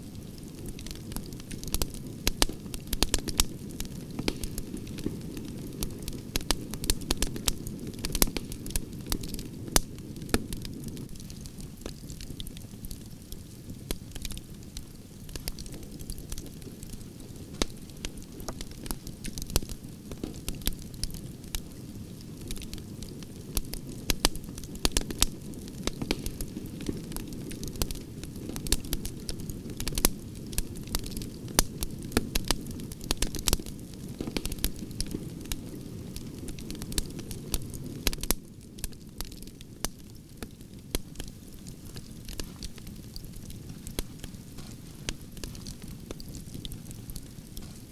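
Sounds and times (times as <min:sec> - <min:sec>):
rumble of campfire flames: 0:00.0 - 0:47.9
wood crackling and popping: 0:00.0 - 0:47.9.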